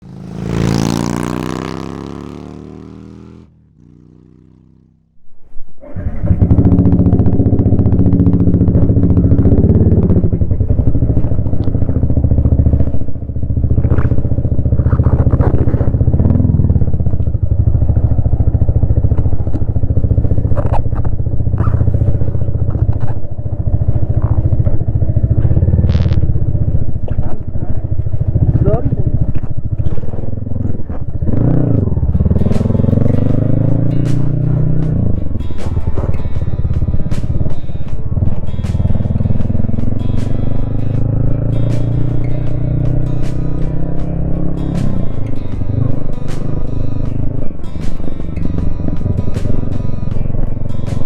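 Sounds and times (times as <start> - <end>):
motorcycle engine starting and running: 0.0 - 5.2, 5.8 - 51.0.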